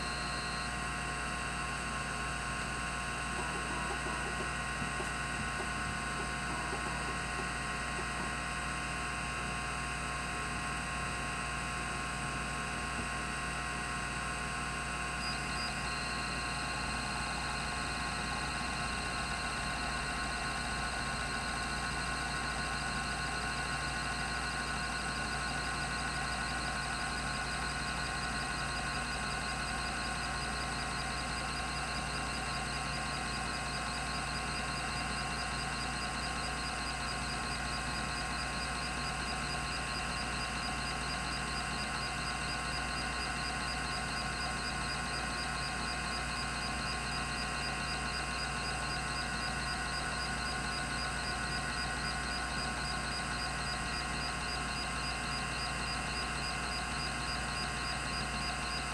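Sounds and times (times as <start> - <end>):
hard drive whirring: 0.0 - 58.9.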